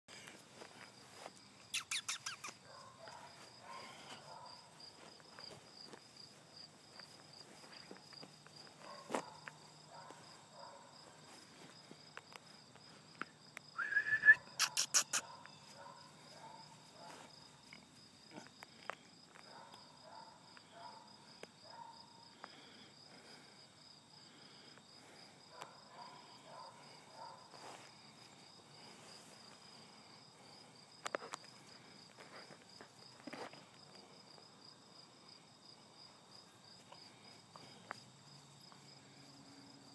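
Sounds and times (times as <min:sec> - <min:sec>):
insect chirping: 0:00.1 - 0:39.9.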